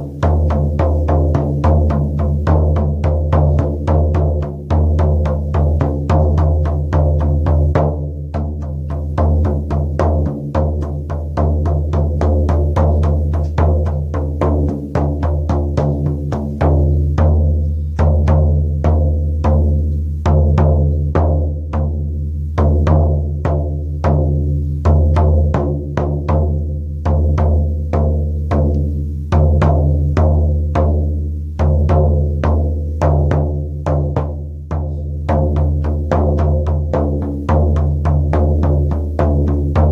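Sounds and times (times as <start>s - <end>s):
frame drum beaten: 0.0s - 39.9s.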